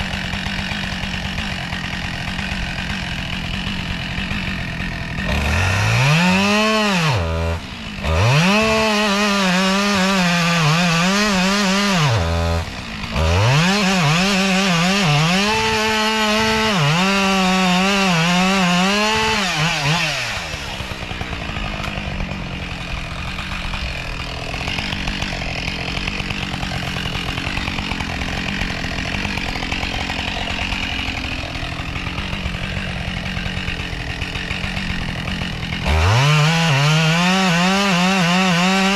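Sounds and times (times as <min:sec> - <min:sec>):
chainsaw cutting into tree: 0:00.0 - 0:38.9.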